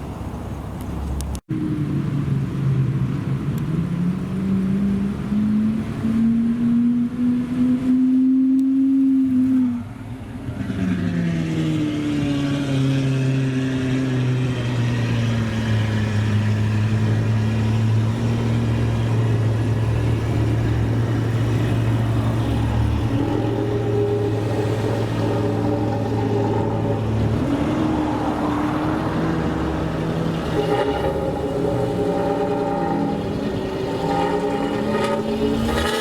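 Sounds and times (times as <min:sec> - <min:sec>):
sports car engine droning: 0:00.0 - 0:36.0.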